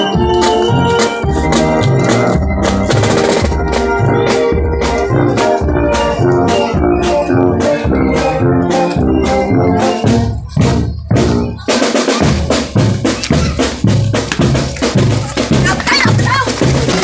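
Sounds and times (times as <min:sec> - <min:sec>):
bass and snare drums: 0:00.0 - 0:17.0
marching band melody: 0:00.0 - 0:17.0.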